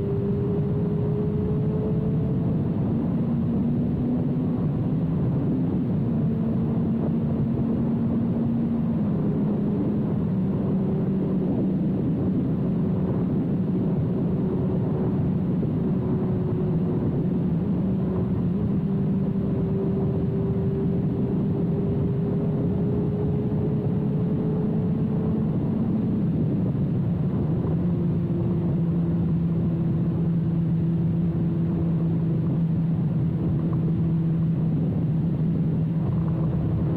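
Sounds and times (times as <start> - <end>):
motorcycle engine cruising: 0.0 - 36.9.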